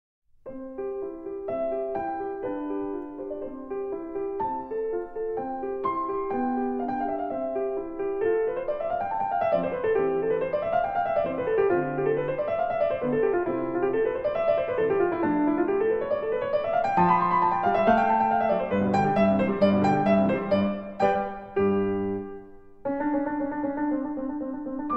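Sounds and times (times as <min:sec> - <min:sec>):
piano music: 0:00.4 - 0:24.9.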